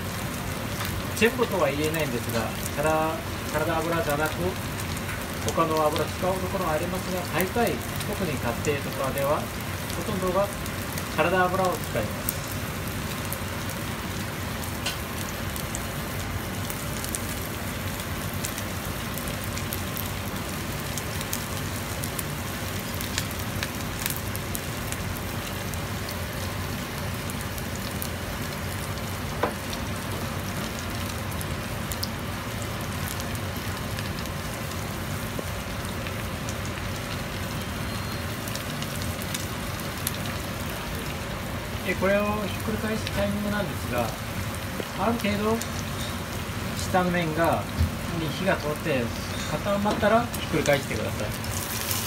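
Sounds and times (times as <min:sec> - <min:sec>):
batter sizzling in oil: 0:00.0 - 0:52.0.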